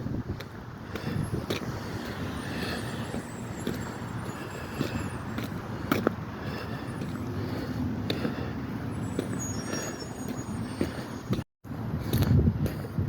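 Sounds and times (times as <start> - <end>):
passing cars rumbling: 0.0 - 12.9.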